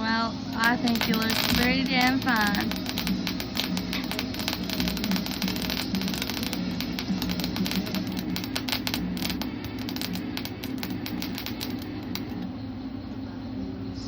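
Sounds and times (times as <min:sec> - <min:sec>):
welding arc crackle and hiss: 0:00.0 - 0:12.5
welder low hum: 0:00.2 - 0:13.2.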